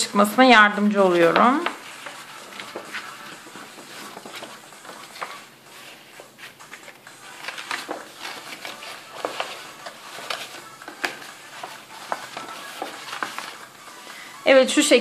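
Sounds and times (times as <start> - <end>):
card rustling and crinkling: 0.1 - 14.4.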